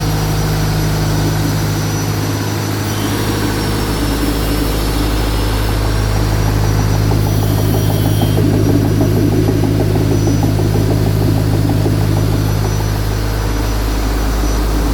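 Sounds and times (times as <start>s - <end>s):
churning rattle: 0.0s - 14.9s
crusher machine humming: 0.0s - 14.9s.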